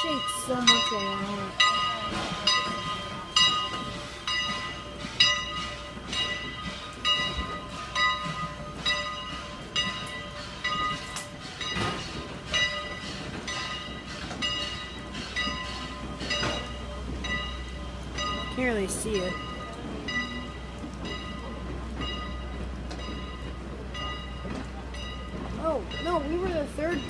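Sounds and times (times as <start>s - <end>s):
locomotive bell ringing: 0.0s - 27.0s.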